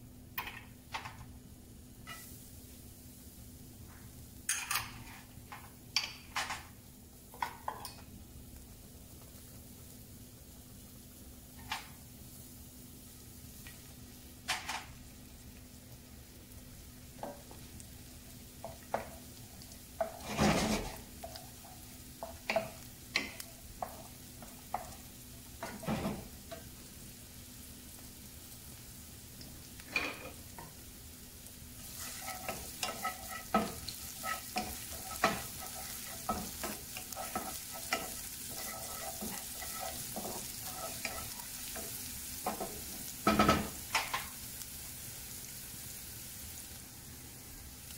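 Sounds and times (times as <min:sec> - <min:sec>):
onion sizzling in oil: 0:00.0 - 0:47.9.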